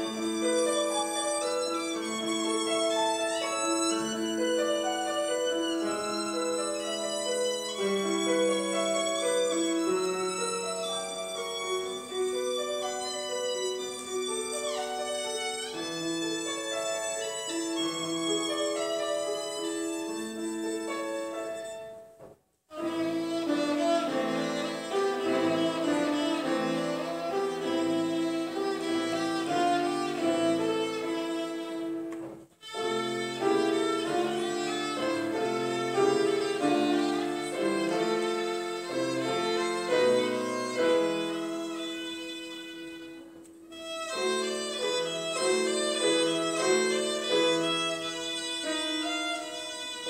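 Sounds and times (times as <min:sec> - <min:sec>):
grand piano accompaniment: 0:00.0 - 0:50.0
violin melody: 0:00.0 - 0:50.0.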